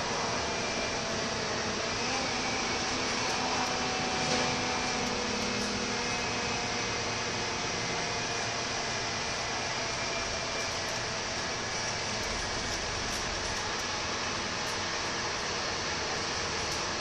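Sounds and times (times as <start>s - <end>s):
bus engine drone: 0.0s - 17.0s
road and tyre noise: 0.0s - 17.0s.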